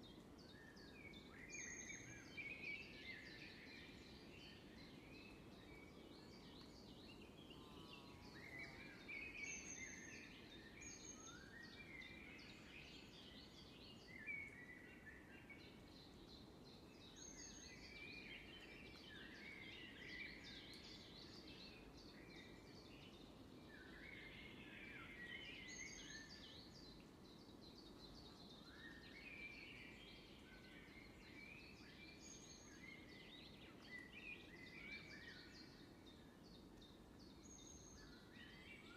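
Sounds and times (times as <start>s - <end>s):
low background noise: 0.0s - 38.9s
woodland birdsong: 0.0s - 38.9s.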